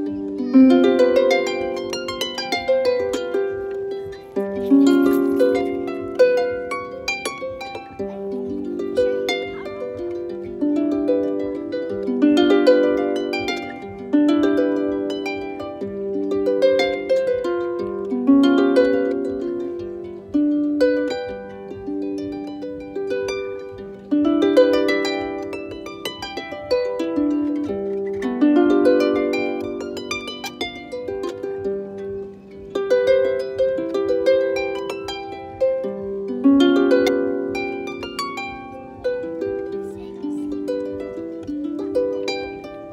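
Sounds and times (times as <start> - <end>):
harp plucked notes and chords: 0.0 - 42.9.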